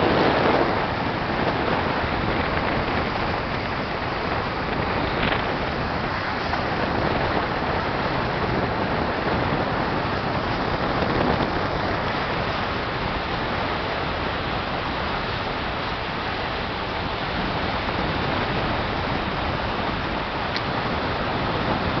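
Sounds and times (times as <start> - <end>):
motorboat rushing: 0.0 - 22.0
water noise: 0.0 - 22.0.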